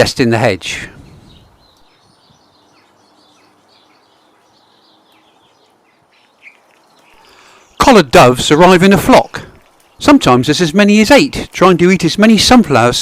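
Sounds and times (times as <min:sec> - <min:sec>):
soft outdoor hiss: 0:00.0 - 0:13.0
small birds chirping: 0:00.5 - 0:13.0.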